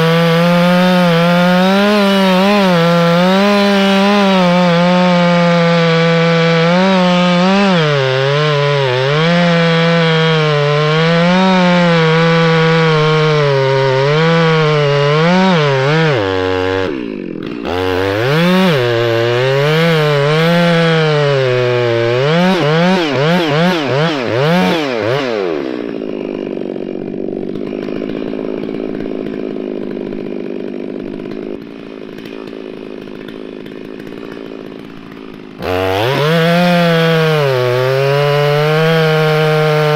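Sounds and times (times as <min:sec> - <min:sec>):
chainsaw cutting and idling: 0:00.0 - 0:39.9.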